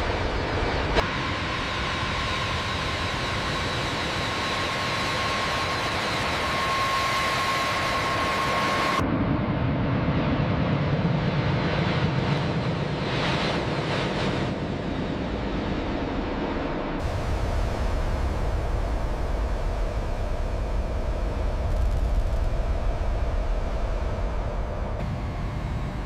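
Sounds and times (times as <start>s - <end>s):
jet engines whining: 0.0s - 26.0s
low jet engine rumble: 0.0s - 26.0s.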